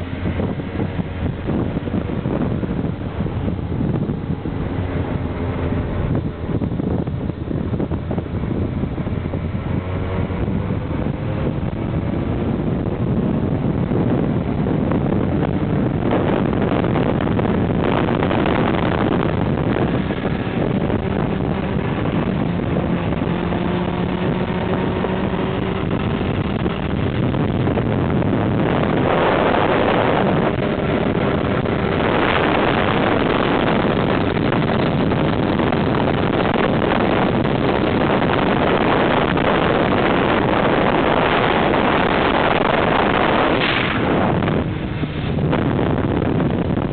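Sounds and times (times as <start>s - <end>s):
motorcycle engine running: 0.0s - 46.9s
wind rush on microphone: 0.0s - 46.9s.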